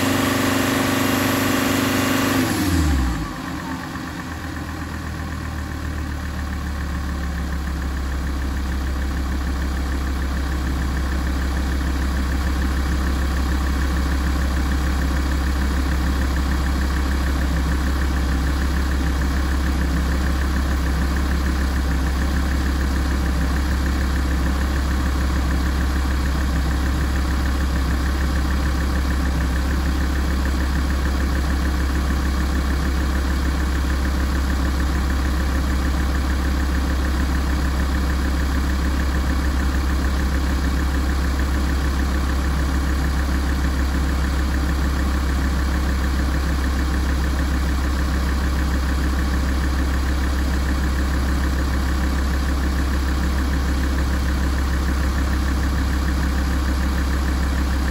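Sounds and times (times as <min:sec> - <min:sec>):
diesel car engine idling: 0:00.0 - 0:57.9.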